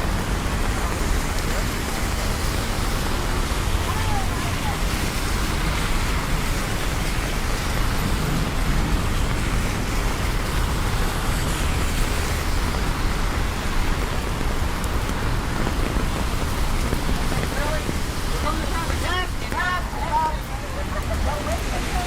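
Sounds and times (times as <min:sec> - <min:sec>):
low rumble of traffic: 0:00.0 - 0:22.0
steady rain falling: 0:00.0 - 0:22.0.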